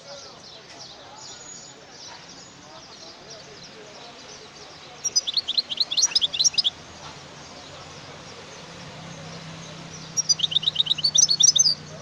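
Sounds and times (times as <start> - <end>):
goldfinch twittering song: 0.3 - 12.0.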